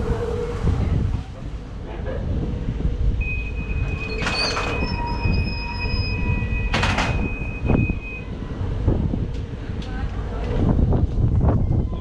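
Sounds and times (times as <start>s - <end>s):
ferry engine rumbling: 0.0s - 12.0s
wind buffeting microphone: 0.0s - 12.0s.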